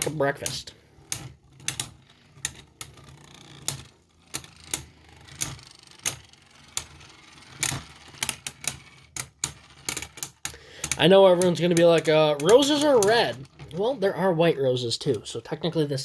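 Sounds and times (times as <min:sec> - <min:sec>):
whir of spinning tops: 0:00.0 - 0:13.8
spinning tops clacking: 0:00.0 - 0:13.9.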